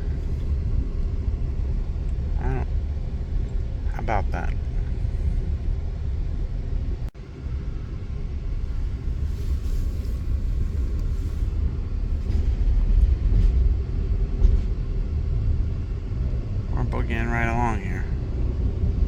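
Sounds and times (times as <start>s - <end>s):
passenger train running: 0.0s - 19.0s.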